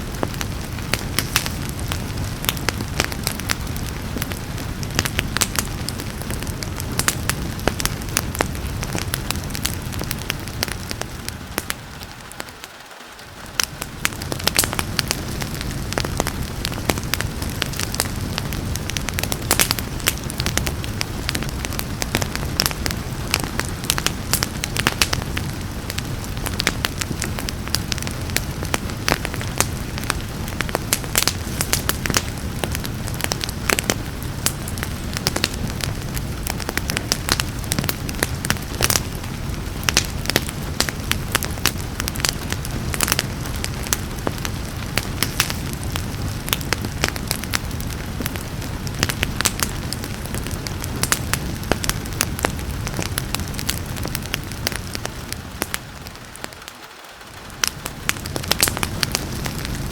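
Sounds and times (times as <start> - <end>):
fire crackling and popping: 0.0 - 59.9
rain hiss: 0.0 - 59.9.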